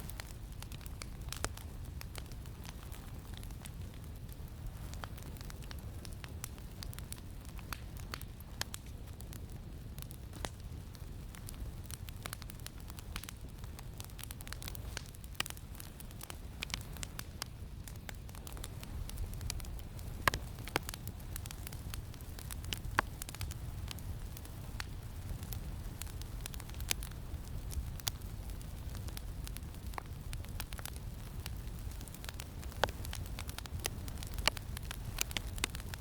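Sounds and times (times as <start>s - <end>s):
campfire crackling and popping: 0.0s - 36.0s
low rumble of wind: 0.0s - 36.0s.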